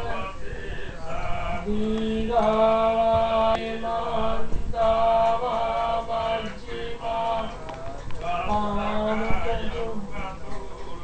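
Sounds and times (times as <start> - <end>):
monks chanting: 0.0 - 11.0.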